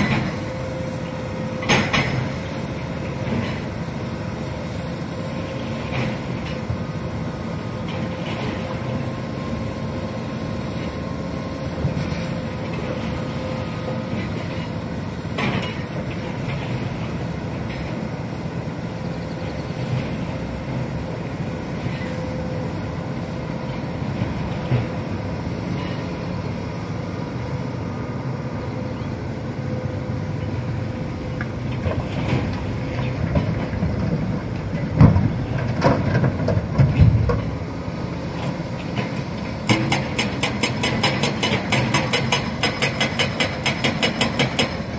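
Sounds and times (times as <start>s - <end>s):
excavator diesel engine whine: 0.0s - 44.9s.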